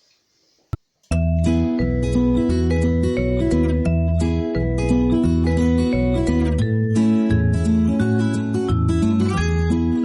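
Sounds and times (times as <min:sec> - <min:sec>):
plucked guitar-like notes: 0:01.1 - 0:10.0
pulsing bass: 0:01.1 - 0:10.0.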